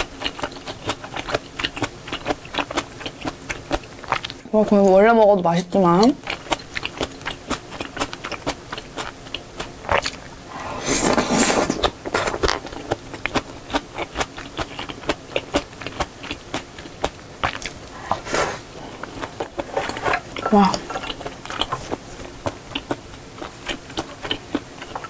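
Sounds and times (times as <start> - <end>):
person chewing noodles: 0.0 - 4.8, 5.9 - 25.0.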